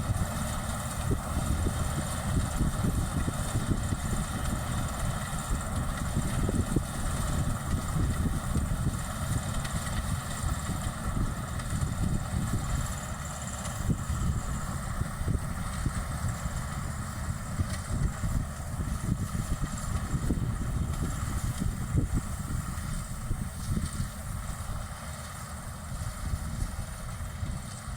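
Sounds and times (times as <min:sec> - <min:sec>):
combine harvester engine drone: 0:00.0 - 0:27.9.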